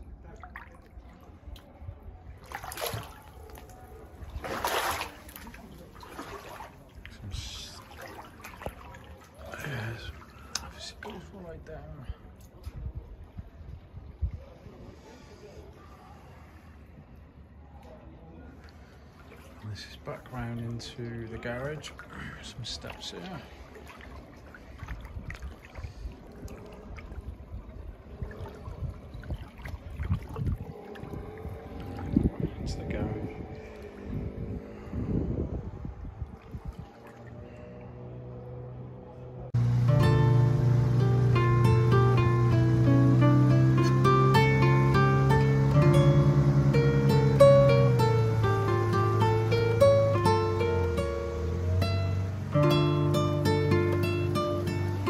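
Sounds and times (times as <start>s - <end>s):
wading through water splashing: 0.0s - 11.6s, 18.5s - 35.0s, 35.8s - 38.7s, 39.6s - 55.0s.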